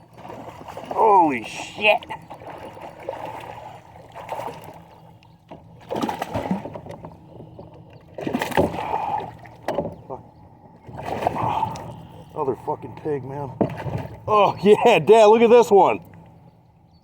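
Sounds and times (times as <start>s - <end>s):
water splashing and sloshing: 0.0s - 16.8s.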